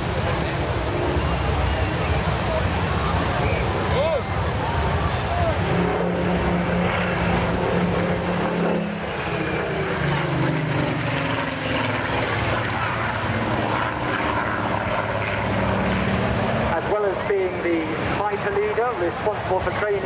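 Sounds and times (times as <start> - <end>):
aircraft piston engine in flight: 0.0 - 20.0.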